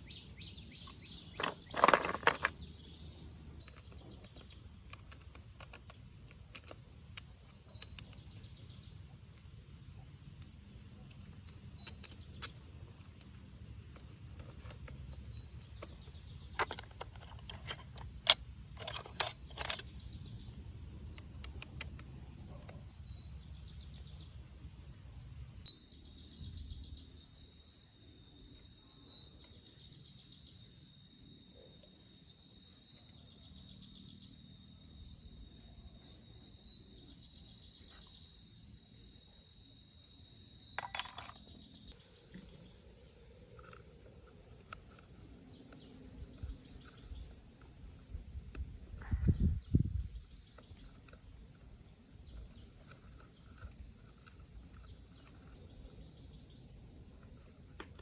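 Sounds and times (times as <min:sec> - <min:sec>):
insects chirping trills: 0:00.0 - 0:58.0
insects high-pitched buzz: 0:00.0 - 0:58.0.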